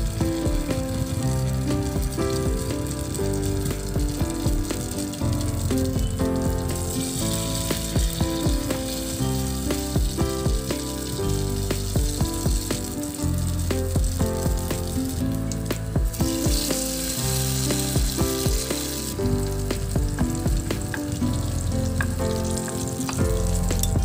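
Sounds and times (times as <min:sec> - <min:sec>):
background music: 0:00.0 - 0:24.0
potato patties sizzling in oil: 0:00.0 - 0:24.0.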